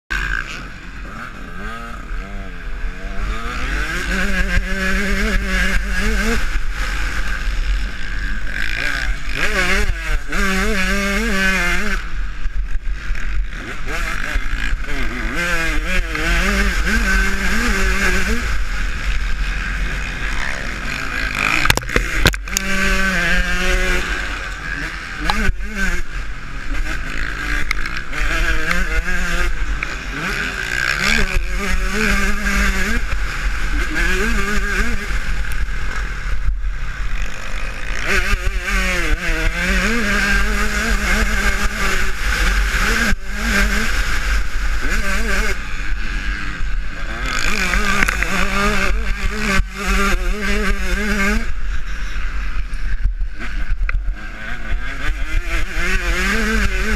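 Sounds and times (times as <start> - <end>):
motorcycle engine revving: 0.1 - 56.9.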